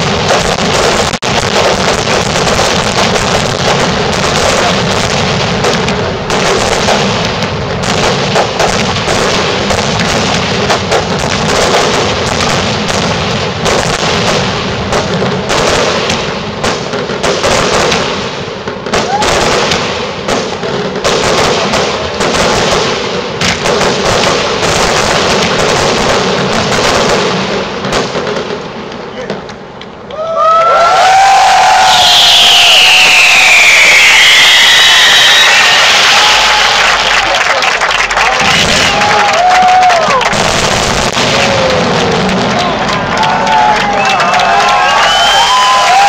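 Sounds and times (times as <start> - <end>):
fireworks bursts and bangs: 0.0 - 30.1, 31.1 - 46.0.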